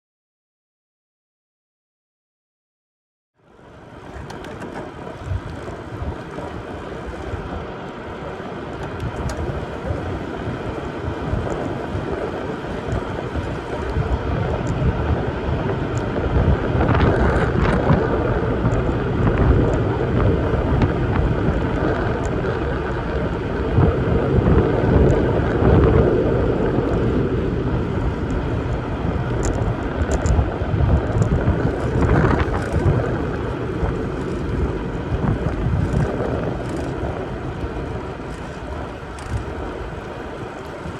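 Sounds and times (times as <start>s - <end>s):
tyres humming on pavement: 3.4s - 40.9s
wind rushing over microphone: 3.5s - 40.9s.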